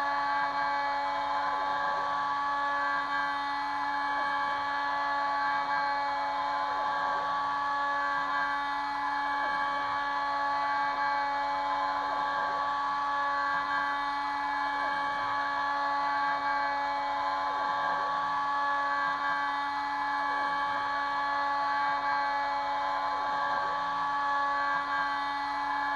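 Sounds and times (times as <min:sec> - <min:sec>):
router spindle whine cutting metal: 0:00.0 - 0:25.9.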